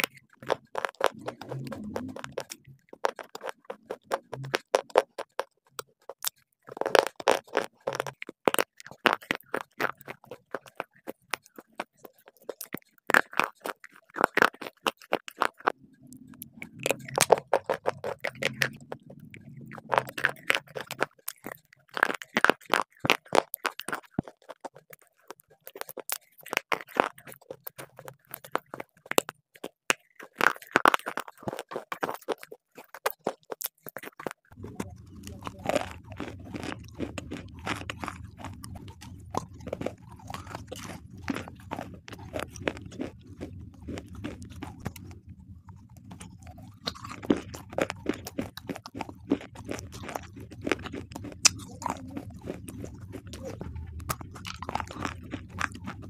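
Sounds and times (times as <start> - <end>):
crunching hard stone pieces: 0.0 - 45.2, 45.8 - 56.0.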